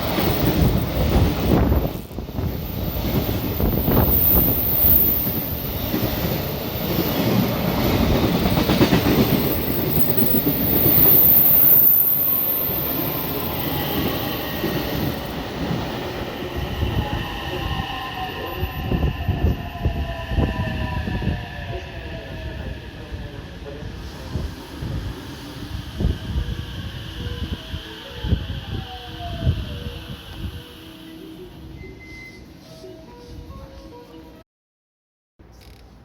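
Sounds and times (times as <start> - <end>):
freight train rumble: 0.0 - 34.4.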